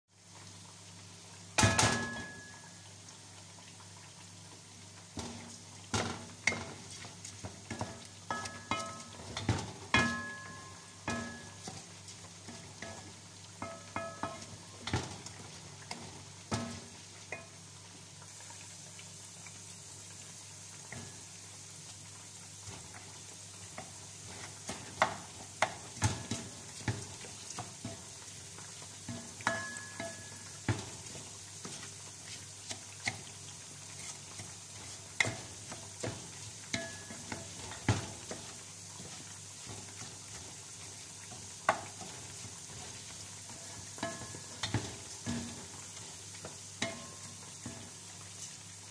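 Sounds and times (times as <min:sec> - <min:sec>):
rice sizzling in oil: 0:00.1 - 0:48.9.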